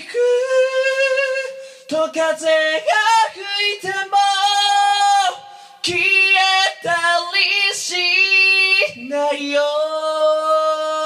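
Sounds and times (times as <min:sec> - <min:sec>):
person singing a cappella: 0:00.0 - 0:11.0.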